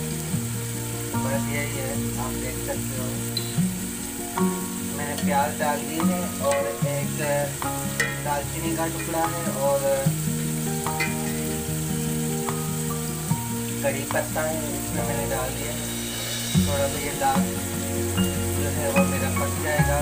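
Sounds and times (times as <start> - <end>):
onions sizzling in a pot: 0.0 - 20.0.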